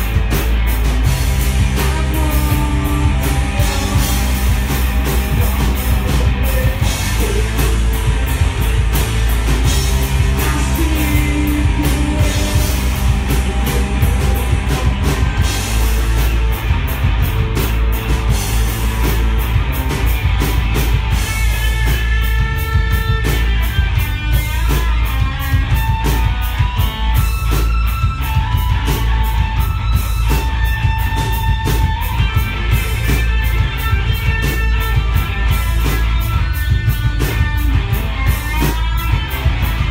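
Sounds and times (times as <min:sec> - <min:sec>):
bass guitar: 0:00.0 - 0:39.9
drums and cymbals beat: 0:00.0 - 0:39.9
electric guitar: 0:00.0 - 0:39.9.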